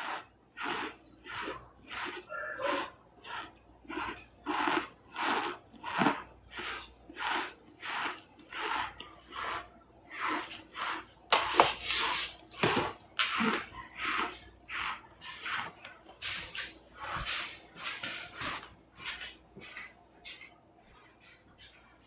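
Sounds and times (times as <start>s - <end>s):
chewing crunchy chunks: 0.0s - 22.0s.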